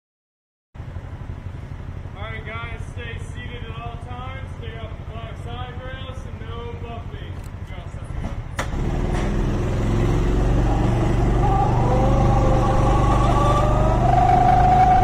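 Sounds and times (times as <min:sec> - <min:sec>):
go-kart engine accelerating: 0:00.8 - 0:15.0.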